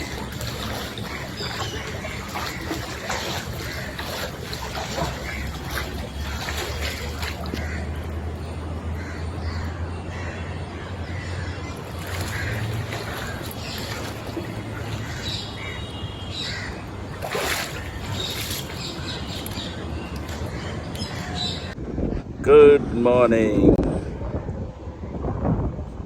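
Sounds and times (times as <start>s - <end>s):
birds calling: 0.0s - 22.1s.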